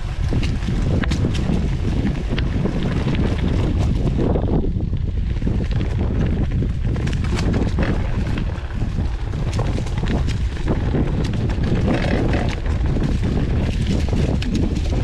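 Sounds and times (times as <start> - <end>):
bike rattling over rough ground: 0.0 - 15.0
wind buffeting microphone: 0.0 - 15.0.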